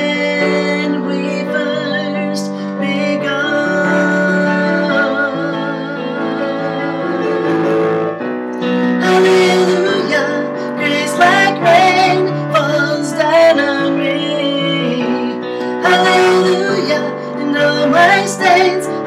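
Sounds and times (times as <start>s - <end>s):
woman singing with vibrato: 0.0s - 7.8s, 8.9s - 19.0s
piano accompaniment: 0.0s - 19.0s.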